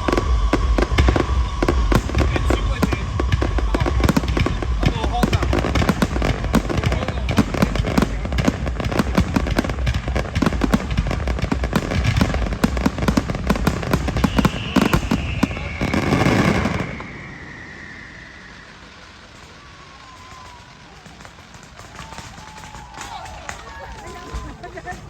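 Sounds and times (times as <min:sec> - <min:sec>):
fireworks crackling and banging: 0:00.0 - 0:25.0
rushing firework burst: 0:00.0 - 0:25.0.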